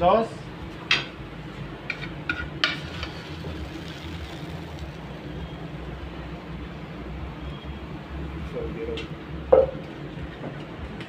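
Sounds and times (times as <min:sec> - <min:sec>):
kitchen equipment humming: 0:00.5 - 0:10.5.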